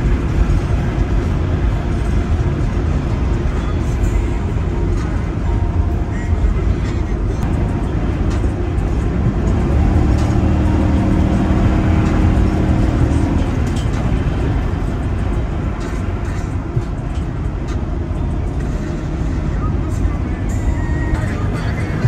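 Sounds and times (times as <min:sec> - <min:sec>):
car interior road rumble: 0:00.0 - 0:22.0.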